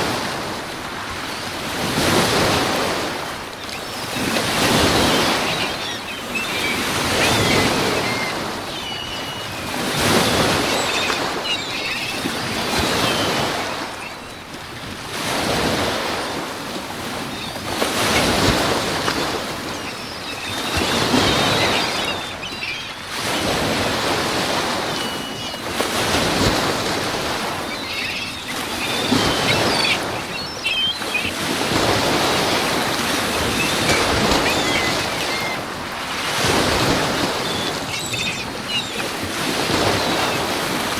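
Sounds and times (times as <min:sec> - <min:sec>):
waves breaking: 0:00.0 - 0:40.9.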